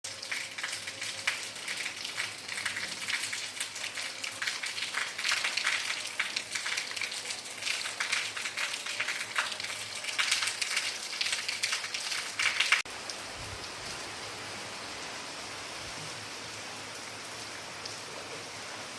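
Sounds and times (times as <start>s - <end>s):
rain pattering: 0.0s - 18.9s.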